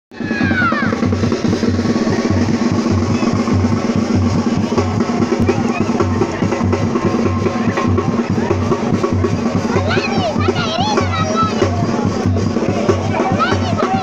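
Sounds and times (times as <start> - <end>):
music with driving drum beat: 0.1 - 14.0.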